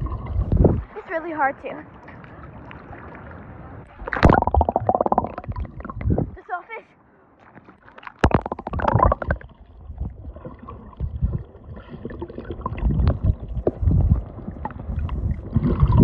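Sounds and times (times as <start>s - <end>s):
underwater rumble and gurgle: 0.0s - 1.0s, 1.9s - 6.4s, 7.4s - 16.0s
water splashing and bubbling: 0.0s - 1.0s, 1.9s - 6.4s, 7.4s - 16.0s.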